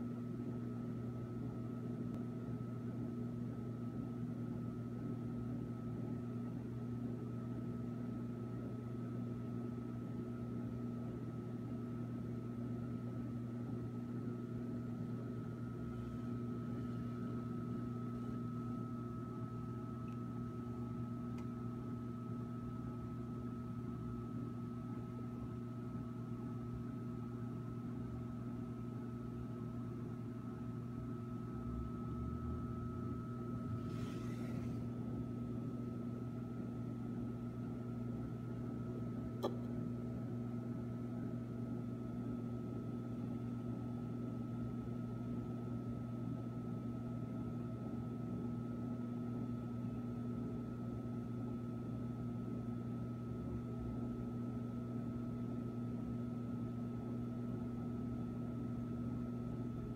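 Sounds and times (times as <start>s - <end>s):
electrical hum of aquarium equipment: 0.0s - 59.9s.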